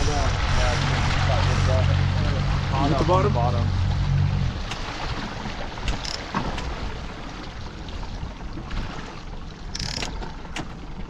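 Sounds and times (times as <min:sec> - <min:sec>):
low engine hum: 0:00.0 - 0:11.0
water sloshing around boat: 0:00.0 - 0:11.0
wind: 0:00.0 - 0:11.0.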